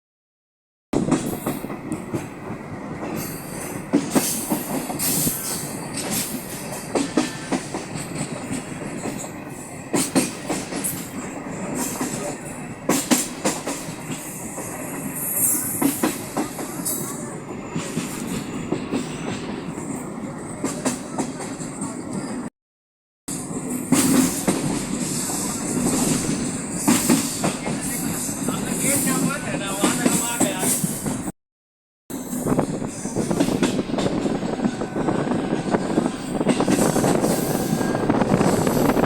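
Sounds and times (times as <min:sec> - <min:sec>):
train wheels rumbling on rails: 0:01.0 - 0:22.5, 0:23.3 - 0:31.3, 0:32.1 - 0:39.0.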